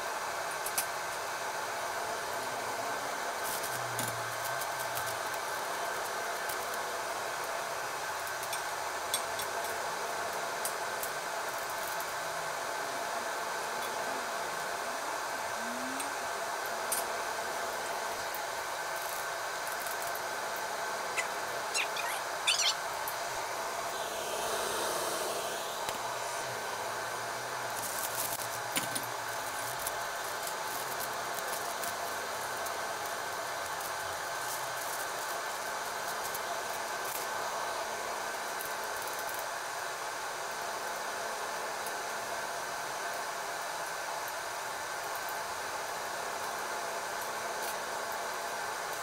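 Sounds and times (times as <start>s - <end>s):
cookies deep-frying in oil: 0.0s - 24.0s, 25.9s - 49.0s.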